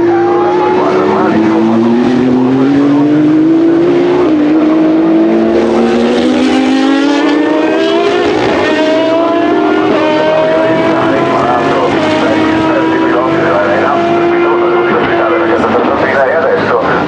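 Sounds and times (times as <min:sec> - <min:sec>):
other race car engines: 0:00.0 - 0:17.0
race car engine accelerating: 0:00.0 - 0:17.0.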